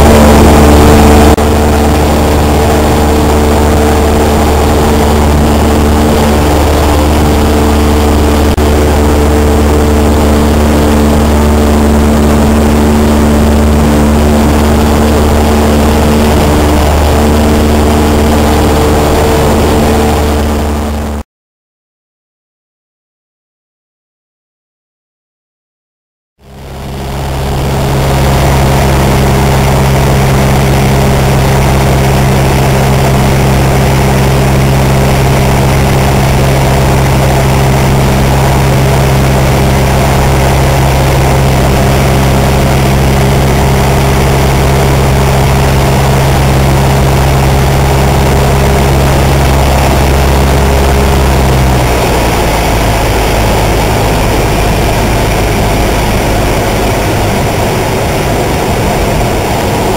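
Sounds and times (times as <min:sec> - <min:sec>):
light aircraft engine drone: 0:00.0 - 0:21.2, 0:26.4 - 0:59.9.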